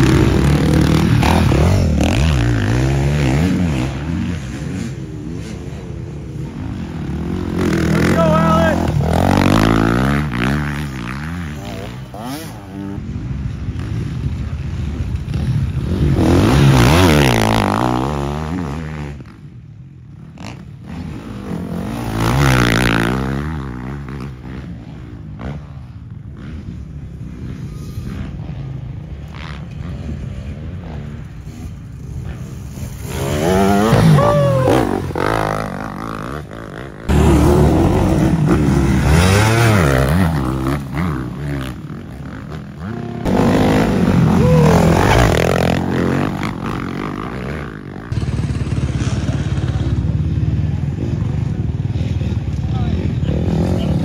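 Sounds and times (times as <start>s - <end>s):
dirt bike engines revving past: 0.0s - 54.0s.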